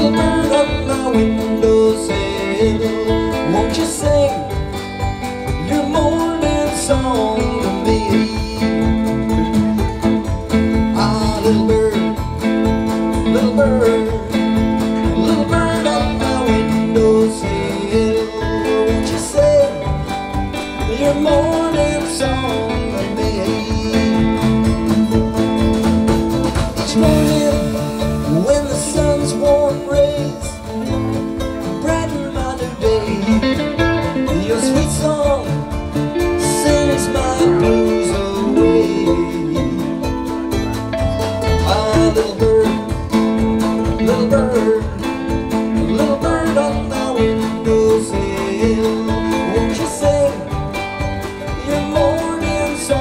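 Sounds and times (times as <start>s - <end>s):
acoustic bluegrass band playing: 0.0s - 53.0s
guitars strumming: 0.0s - 53.0s
wavering lead melody: 0.0s - 53.0s.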